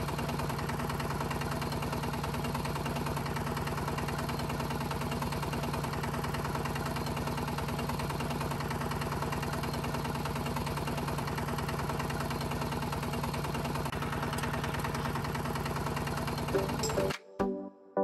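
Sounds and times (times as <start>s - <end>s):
mini tractor motor running: 0.0s - 17.1s.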